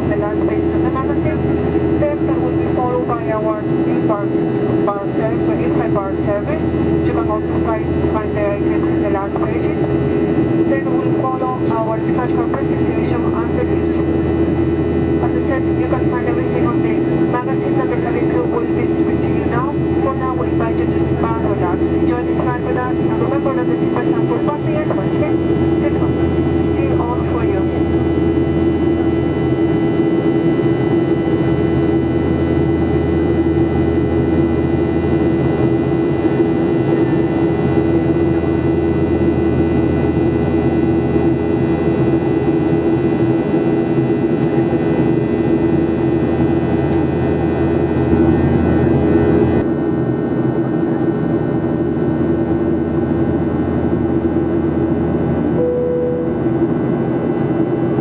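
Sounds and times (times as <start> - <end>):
airflow roar past fuselage: 0.0 - 58.0
jet engine drone: 0.0 - 58.0.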